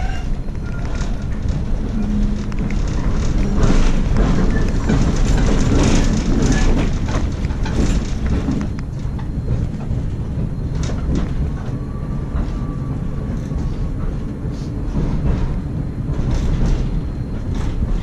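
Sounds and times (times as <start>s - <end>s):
tram rumbling: 0.0s - 18.0s.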